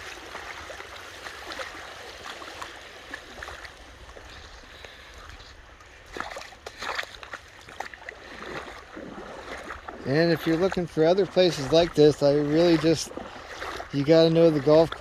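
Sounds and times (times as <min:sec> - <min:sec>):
creek water running: 0:00.0 - 0:15.0
splashes in water: 0:00.0 - 0:15.0.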